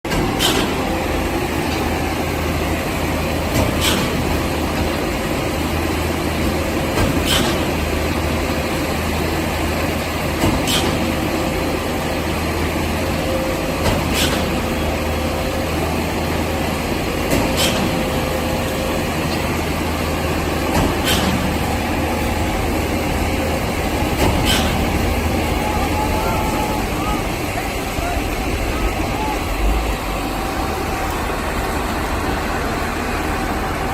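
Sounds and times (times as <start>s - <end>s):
concrete pump engine hum: 0.1s - 33.9s.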